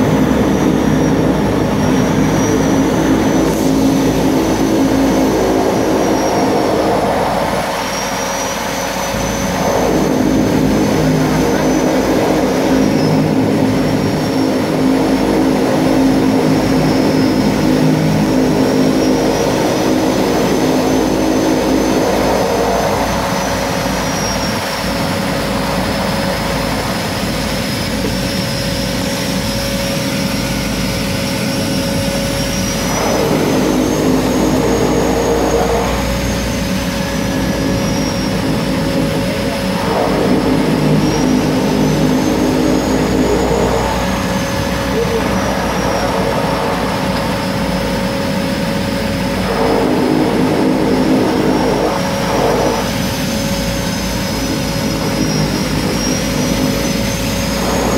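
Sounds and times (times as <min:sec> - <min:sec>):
seaplane engine droning: 0:00.0 - 0:57.9.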